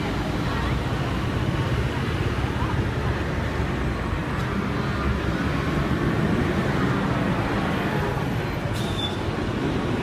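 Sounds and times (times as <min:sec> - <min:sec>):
motorbikes and traffic: 0:00.0 - 0:10.0.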